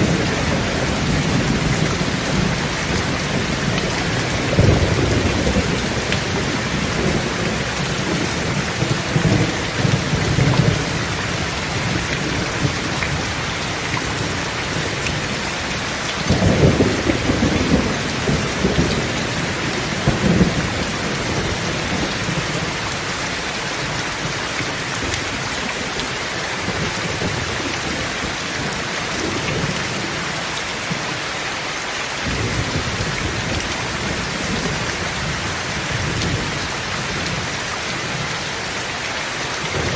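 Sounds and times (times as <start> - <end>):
thunder rumbling: 0.0 - 26.0, 32.2 - 38.8, 39.6 - 39.9
heavy rain: 0.0 - 39.9.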